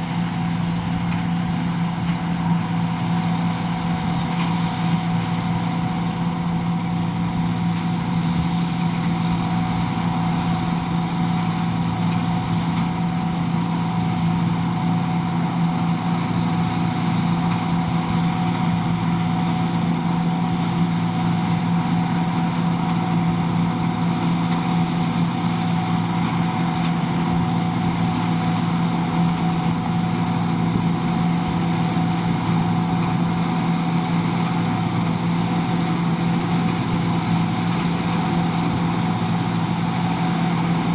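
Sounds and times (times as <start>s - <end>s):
combine harvester machinery hum: 0.0s - 40.9s.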